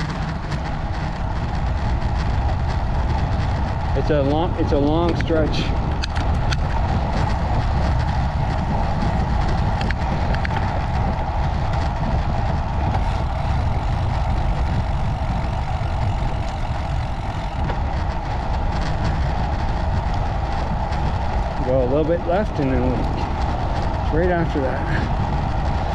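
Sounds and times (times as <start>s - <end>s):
bicycle clicks and rattles: 0.0s - 25.9s
tyres humming on pavement: 0.0s - 25.9s
wind rumbling on microphone: 0.0s - 25.9s.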